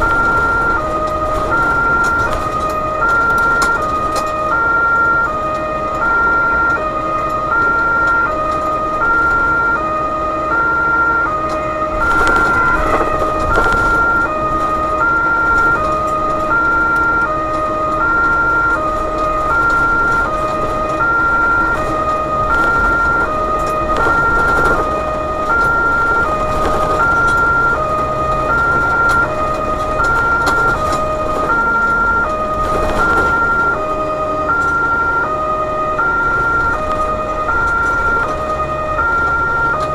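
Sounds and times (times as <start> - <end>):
road noise: 0.0 - 39.9
truck engine: 0.0 - 39.9
two-tone emergency siren: 0.0 - 39.9.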